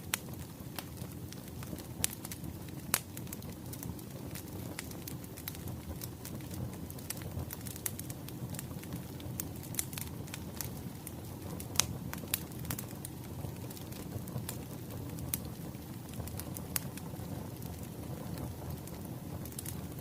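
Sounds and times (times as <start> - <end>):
low rumble of burning logs: 0.0 - 20.0
wood fire crackling: 0.0 - 20.0.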